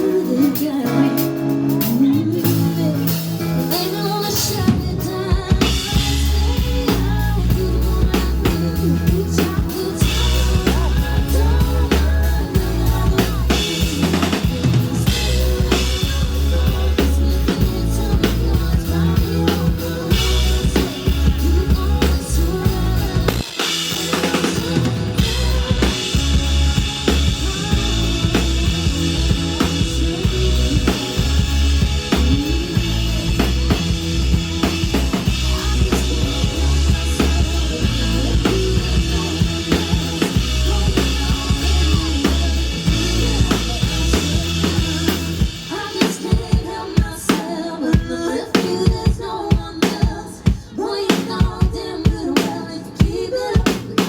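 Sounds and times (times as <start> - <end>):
band music with drums and bass: 0.0 - 54.0.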